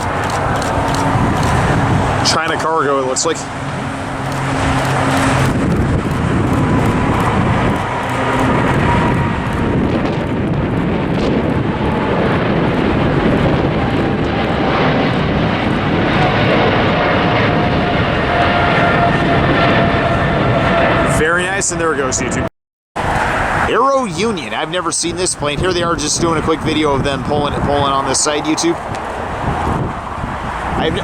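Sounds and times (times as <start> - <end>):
jet engine roar: 0.0 - 31.0.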